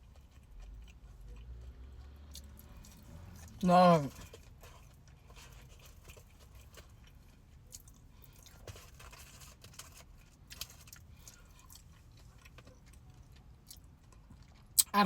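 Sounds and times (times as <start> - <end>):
chewing crunchy food: 0.0 - 14.9.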